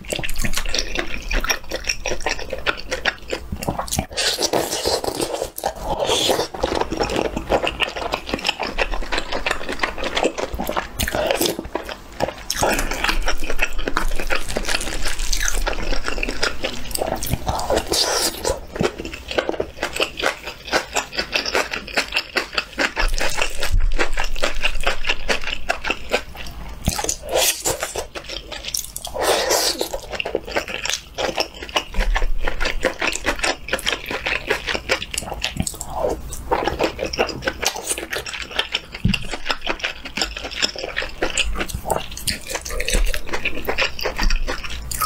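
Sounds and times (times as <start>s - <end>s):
wet chewing mouth sounds: 0.0s - 45.0s.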